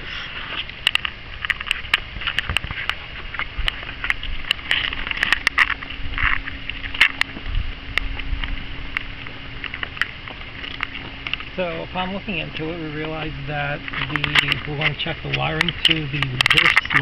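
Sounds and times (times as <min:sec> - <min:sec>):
footsteps on asphalt: 0:00.0 - 0:16.8
steady background hiss: 0:00.0 - 0:17.0.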